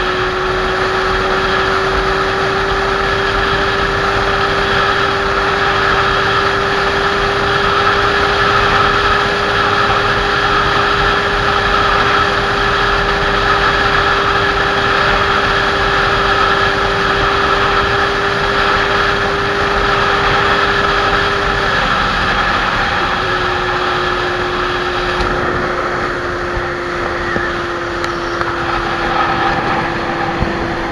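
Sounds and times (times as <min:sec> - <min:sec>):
motorcycle engine cruising: 0:00.0 - 0:30.9
wind and road noise: 0:00.0 - 0:30.9.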